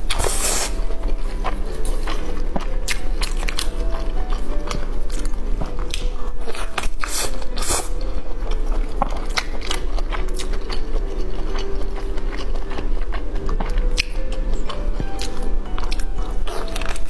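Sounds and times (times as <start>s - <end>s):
crunchy food being chewed: 0.0s - 17.0s.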